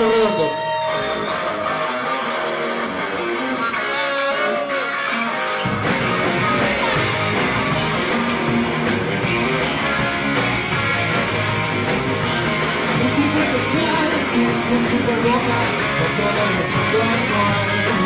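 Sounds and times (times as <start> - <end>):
bass guitar: 0.0 - 18.0
drums: 0.0 - 18.0
electric guitar: 0.0 - 18.0
live rock band playing: 0.0 - 18.0.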